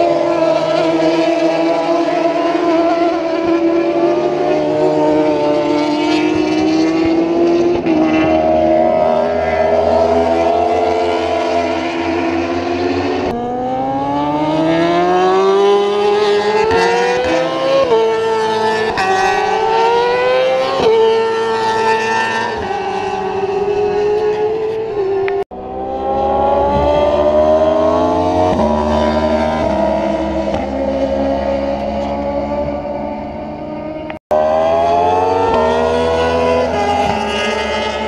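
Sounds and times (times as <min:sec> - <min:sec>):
motorbike accelerating through gears: 0:00.0 - 0:38.0
superbike engines at high revs: 0:00.0 - 0:38.0.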